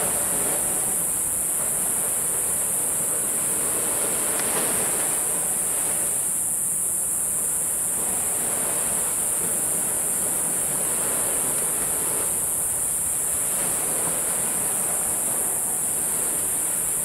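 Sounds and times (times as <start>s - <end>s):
high-pitched hiss: 0.0s - 17.0s
waves breaking on shore: 0.0s - 17.0s.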